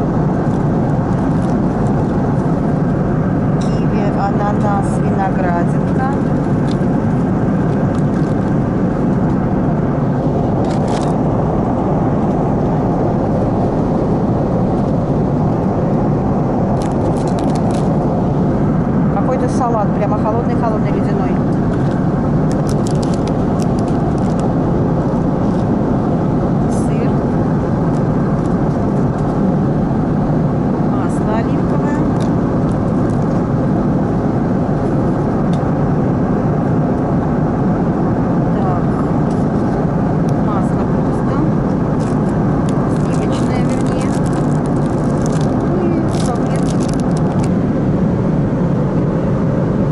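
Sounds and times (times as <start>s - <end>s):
airliner engine drone: 0.0s - 49.9s.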